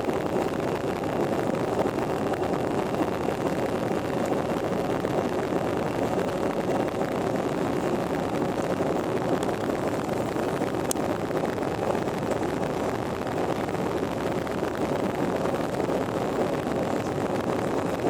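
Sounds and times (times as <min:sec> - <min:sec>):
airplane engine drone: 0:00.0 - 0:18.0.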